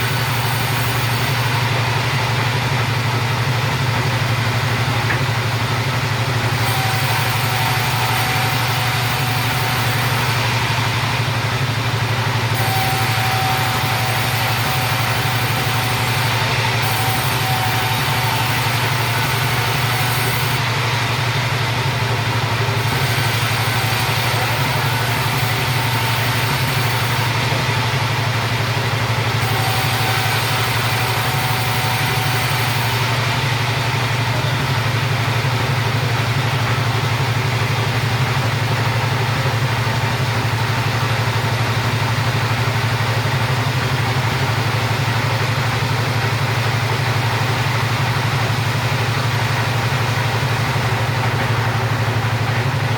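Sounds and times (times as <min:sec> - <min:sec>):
chainsaw engine running: 0:00.0 - 0:52.9.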